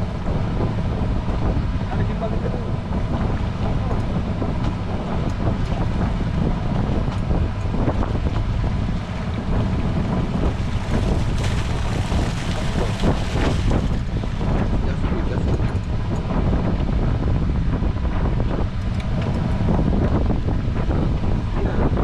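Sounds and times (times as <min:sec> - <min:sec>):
boat engine low rumble: 0:00.0 - 0:22.0
wind buffeting microphone: 0:00.0 - 0:22.0.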